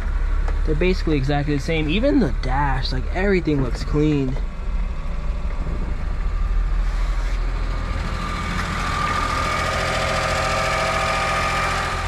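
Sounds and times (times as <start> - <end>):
high whine: 0.0 - 12.0
small truck engine idling: 0.0 - 12.0.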